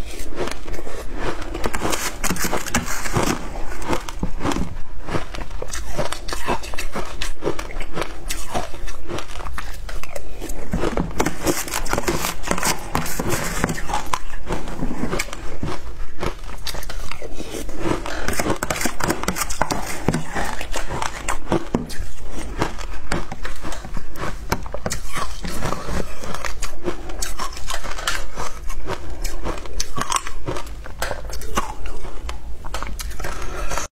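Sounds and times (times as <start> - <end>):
ice crunching in mouth: 0.0 - 33.9.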